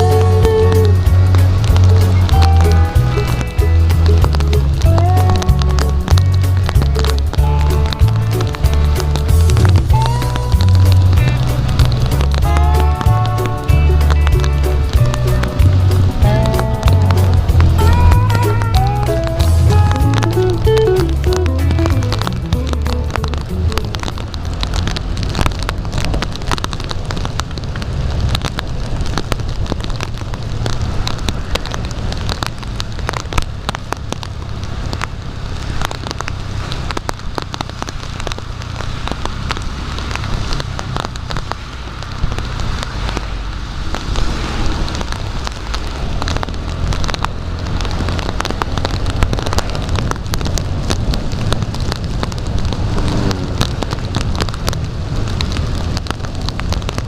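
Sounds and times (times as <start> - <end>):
heavy rain patter on plastic: 0.0 - 57.0
steady low rumble: 0.0 - 57.0.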